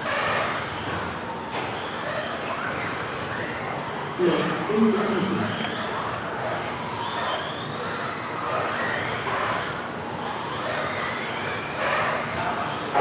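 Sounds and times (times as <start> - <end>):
electric rc car motors whining: 0.0 - 13.0.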